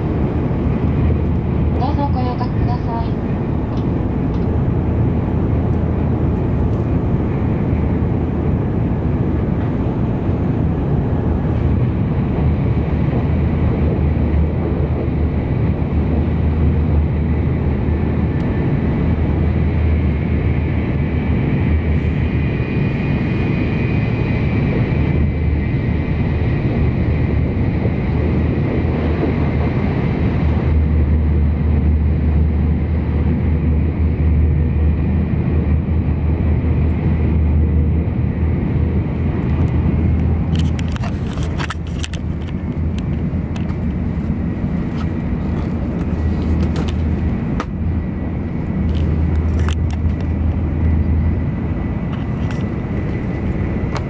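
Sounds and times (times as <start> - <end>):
passing train: 0.0 - 54.0
train wheels and air rumbling: 0.0 - 54.0.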